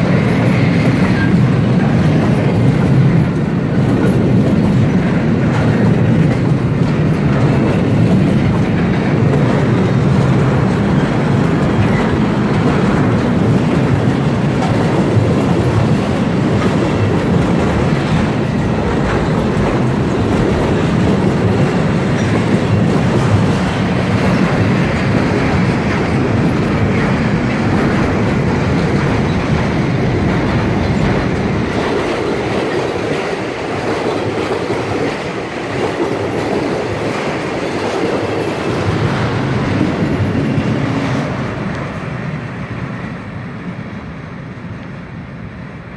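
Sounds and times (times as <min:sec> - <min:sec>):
steel train wheels on rails: 0:00.0 - 0:45.9.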